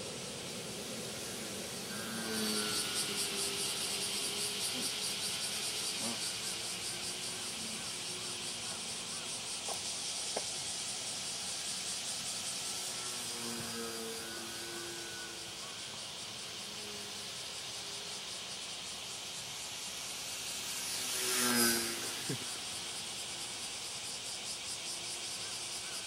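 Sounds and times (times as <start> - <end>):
cicadas buzzing: 0.0 - 26.0
model airplane motor whine: 0.0 - 26.0.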